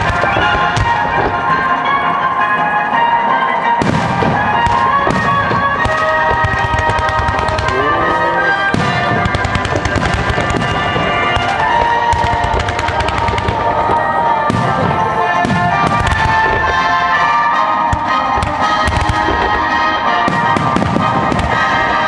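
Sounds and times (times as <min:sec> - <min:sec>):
background music: 0:00.0 - 0:22.0
fireworks bursting and crackling: 0:00.0 - 0:22.0.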